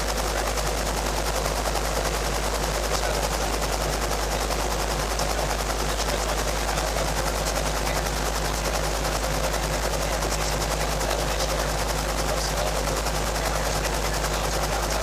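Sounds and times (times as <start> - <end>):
helicopter running: 0.0 - 15.0.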